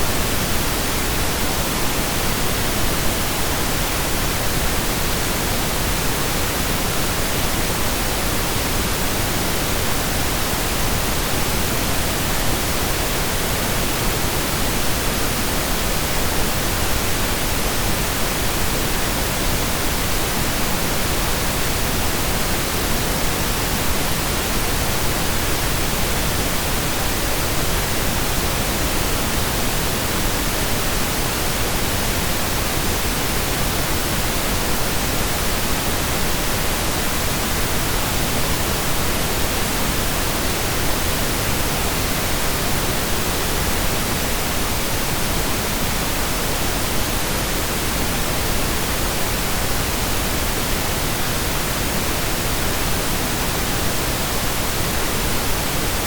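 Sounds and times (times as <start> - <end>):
pink noise hiss: 0.0 - 56.0.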